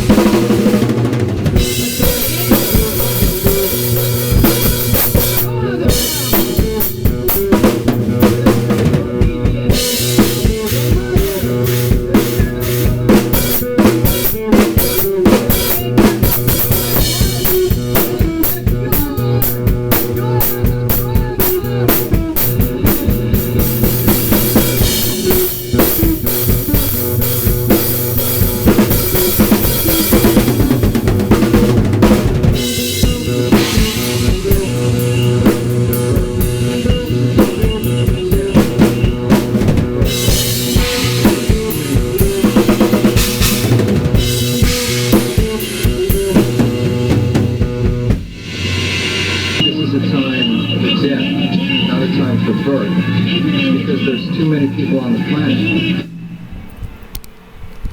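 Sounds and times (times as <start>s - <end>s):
drum kit playing: 0.0s - 50.3s
sustained pitched backing sample: 0.0s - 57.9s.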